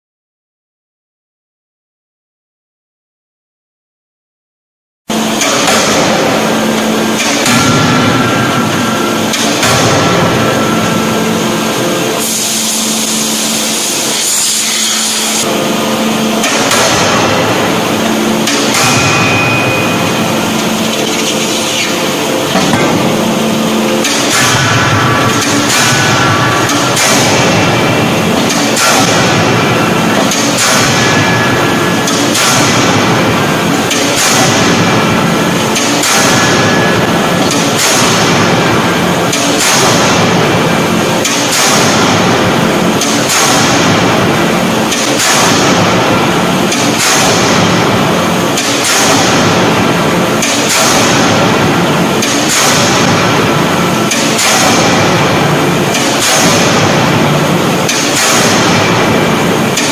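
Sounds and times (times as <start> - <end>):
loud machinery noise: 5.1 - 59.9
forging hammer striking metal: 5.2 - 59.9.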